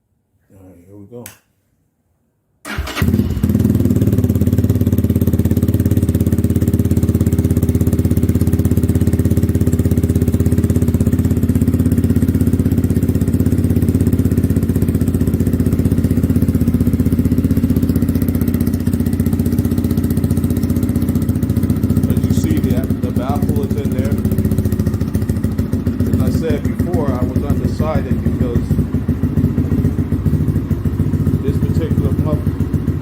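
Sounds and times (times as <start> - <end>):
motorcycle engine idling: 2.7 - 33.0.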